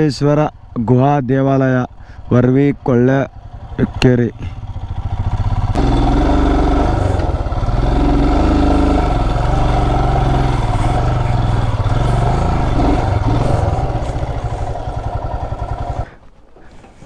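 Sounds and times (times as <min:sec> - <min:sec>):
motorcycle engine idling: 0:00.3 - 0:16.3.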